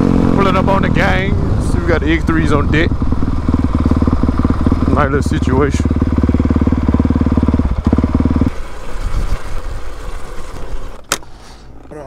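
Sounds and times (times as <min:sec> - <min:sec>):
dirt bike engine running: 0:00.0 - 0:11.1.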